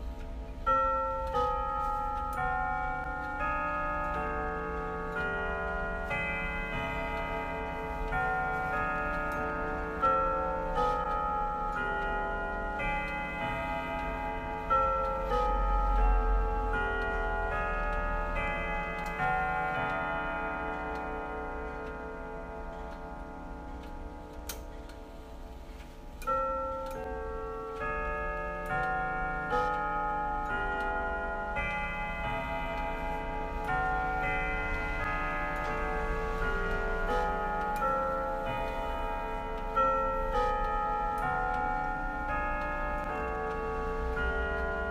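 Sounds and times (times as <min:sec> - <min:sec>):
clock chime melody: 0:00.0 - 0:44.9
clock ticking: 0:00.0 - 0:44.9.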